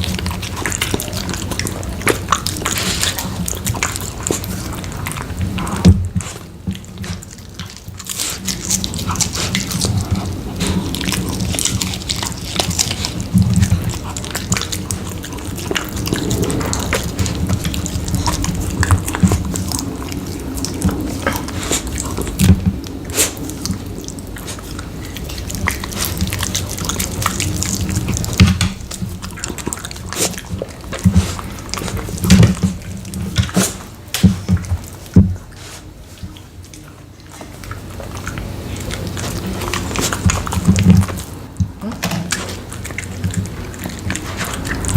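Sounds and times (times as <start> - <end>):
dog licking and chewing: 0.0 - 44.9.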